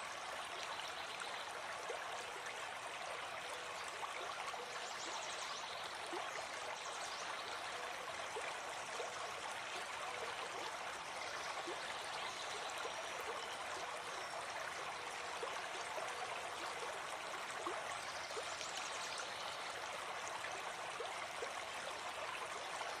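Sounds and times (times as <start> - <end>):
forest stream rushing and gurgling: 0.0 - 23.0.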